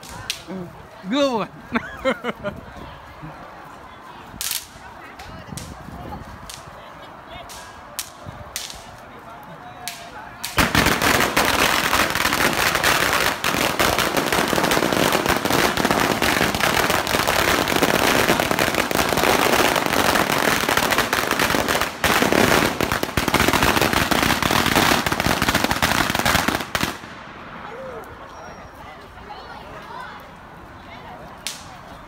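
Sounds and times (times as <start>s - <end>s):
firecrackers crackling: 0.0s - 28.3s, 31.2s - 32.0s.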